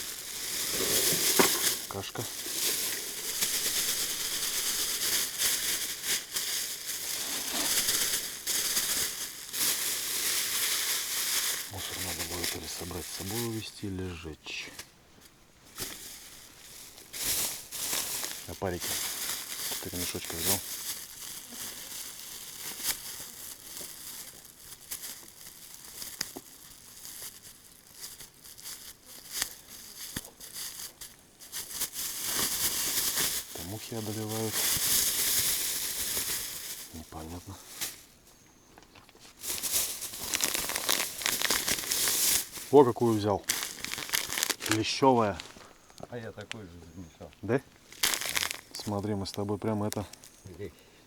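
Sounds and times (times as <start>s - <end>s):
plastic packaging crinkling: 0.0s - 13.7s, 15.7s - 46.6s, 47.7s - 50.5s.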